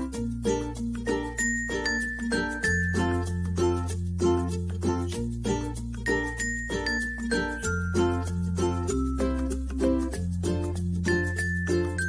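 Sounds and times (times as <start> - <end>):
bright plucked notes: 0.0 - 12.0.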